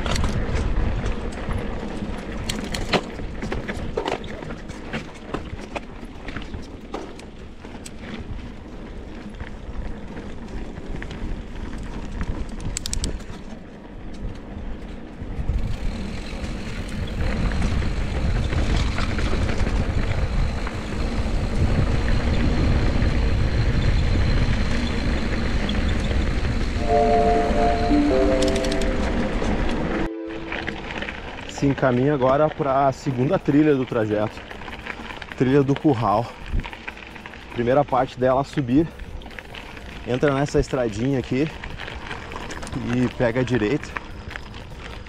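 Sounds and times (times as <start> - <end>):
bike rattling and clicking: 0.0 - 26.8, 30.8 - 45.0.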